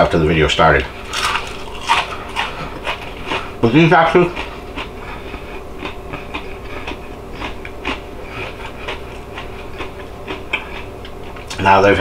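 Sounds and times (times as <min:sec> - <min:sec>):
crunchy chewing: 0:01.0 - 0:11.6.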